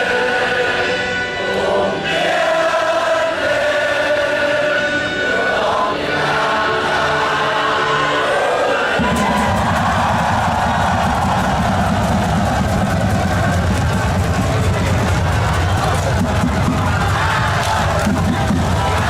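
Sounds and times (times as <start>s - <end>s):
choir chanting on held notes: 0.0s - 19.0s.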